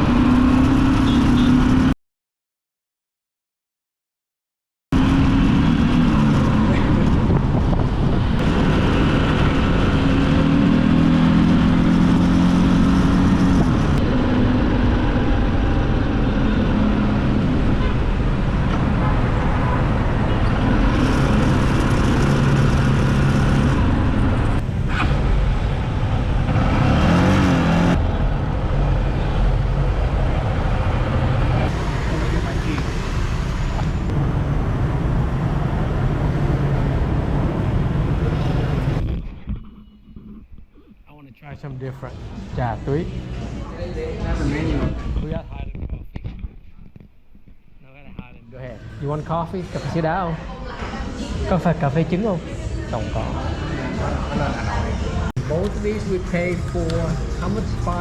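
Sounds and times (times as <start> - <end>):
road and wind noise: 0.0 - 2.0, 4.9 - 58.0.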